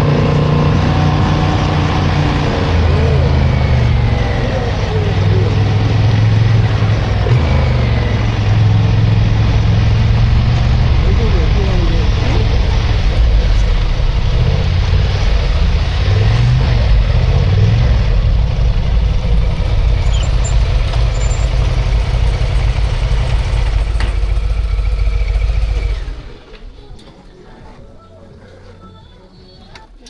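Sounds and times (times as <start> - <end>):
motorcycle engine running: 0.0 - 28.2.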